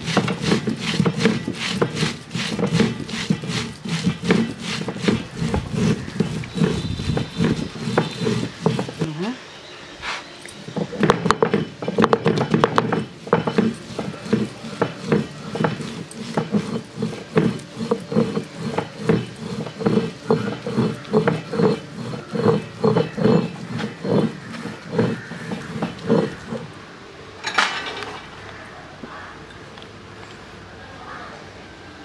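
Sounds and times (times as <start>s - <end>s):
stone roller grinding paste: 0.0s - 9.3s, 10.0s - 26.8s.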